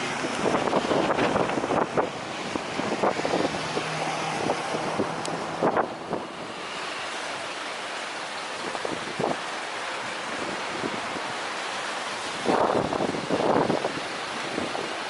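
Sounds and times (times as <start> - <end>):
wind buffeting microphone: 0.0 - 7.0, 8.5 - 15.0.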